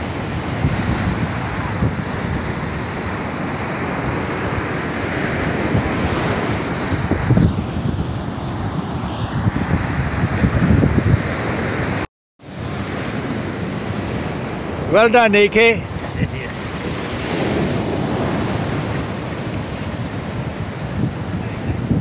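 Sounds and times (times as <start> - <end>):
wind buffeting microphone: 0.0 - 14.9, 15.8 - 22.0
ocean surf on sand beach: 0.0 - 22.0.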